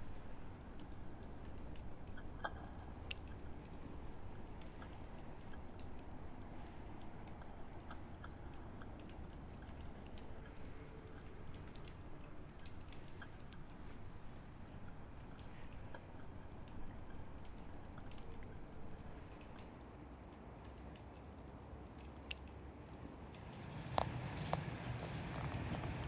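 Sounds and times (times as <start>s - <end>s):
fire low rumble: 0.0s - 26.0s
wood fire crackling: 0.0s - 26.0s.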